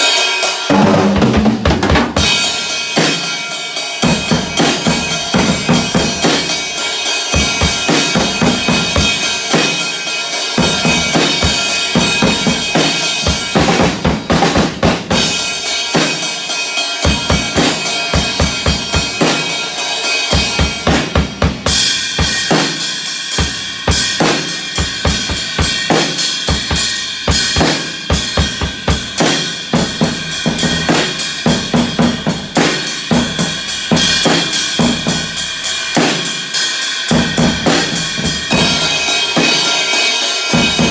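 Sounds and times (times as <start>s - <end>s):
kick and snare drum strokes: 0.0s - 3.4s, 4.0s - 16.3s, 17.0s - 19.7s, 20.3s - 36.5s, 37.1s - 40.9s
cymbals: 0.0s - 40.9s.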